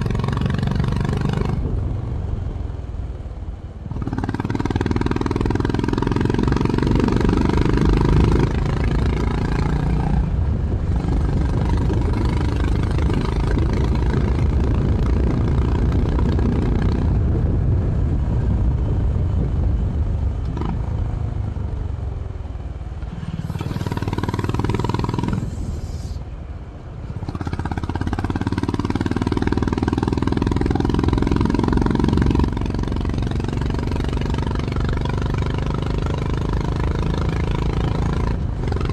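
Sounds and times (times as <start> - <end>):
motorcycle engine shifting gears: 3.8 - 22.1, 22.8 - 26.1, 27.1 - 38.9.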